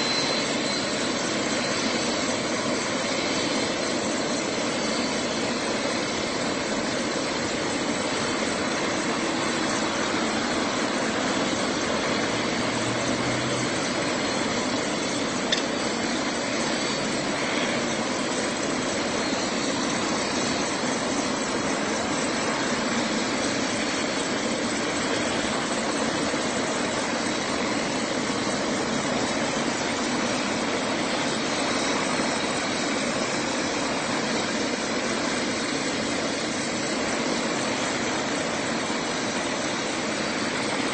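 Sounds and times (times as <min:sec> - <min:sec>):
helicopter turbine and rotors: 0:00.0 - 0:40.9.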